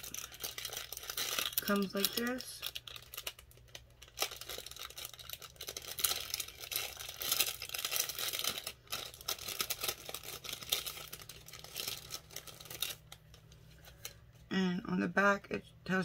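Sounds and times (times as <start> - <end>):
cellophane packet crinkling: 0.0 - 14.3.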